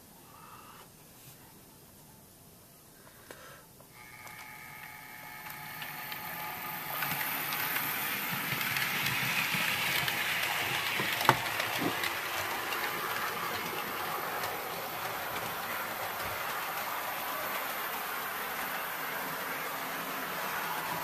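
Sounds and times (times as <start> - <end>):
small wheels clicking over rails: 4.0 - 21.0.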